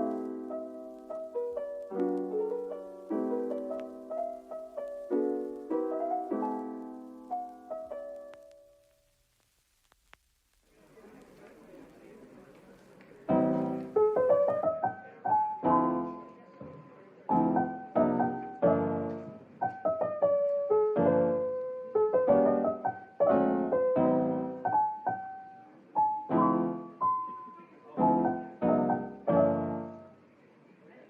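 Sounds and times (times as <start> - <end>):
gentle piano melody: 0.0 - 9.0, 13.2 - 30.2.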